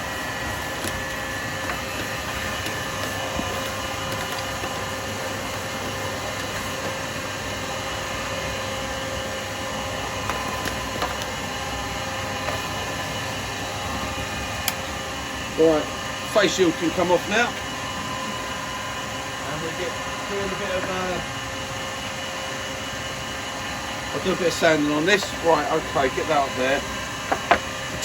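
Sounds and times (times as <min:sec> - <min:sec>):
machine motor humming: 0:00.0 - 0:28.0.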